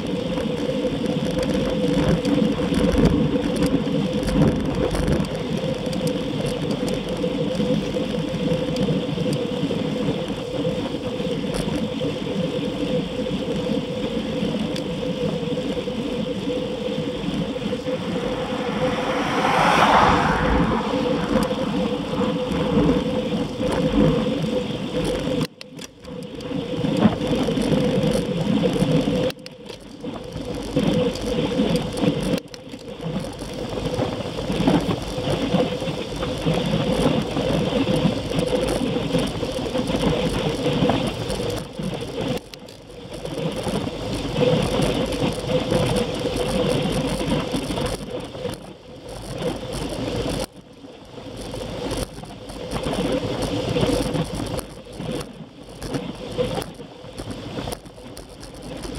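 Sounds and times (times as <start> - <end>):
bicycle tyres and drivetrain whirring: 0.0 - 58.9.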